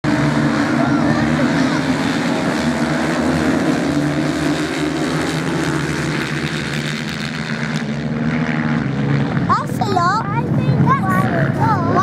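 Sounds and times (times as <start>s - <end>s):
racing motorcycle engines droning: 0.0s - 12.0s.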